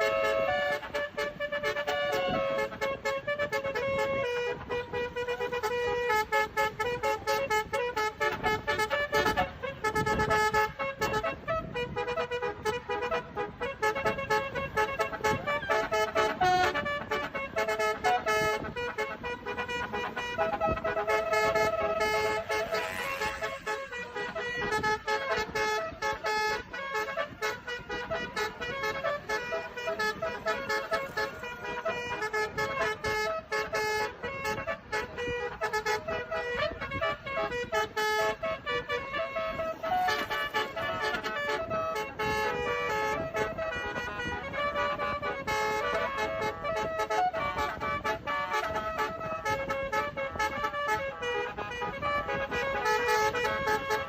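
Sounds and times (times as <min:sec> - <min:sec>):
multi-tone bus horn melody: 0:00.0 - 0:54.0.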